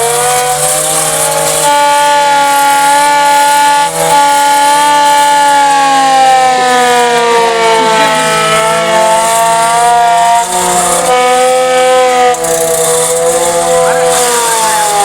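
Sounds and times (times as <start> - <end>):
warning siren wailing: 1.6 - 15.0.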